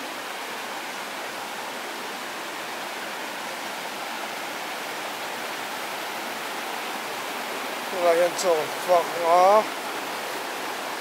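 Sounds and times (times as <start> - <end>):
stream flowing over stones: 0.0 - 11.0.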